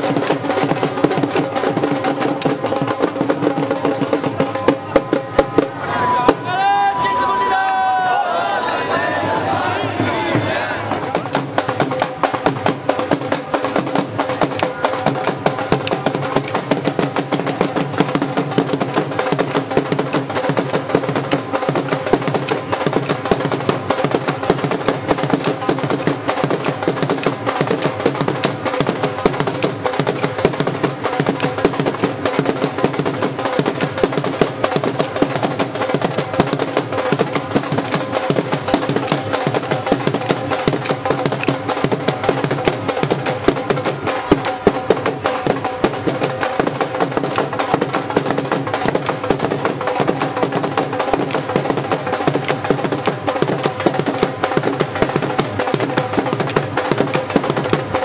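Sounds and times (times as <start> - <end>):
fast steady drumming: 0.0 - 8.0, 9.5 - 58.0.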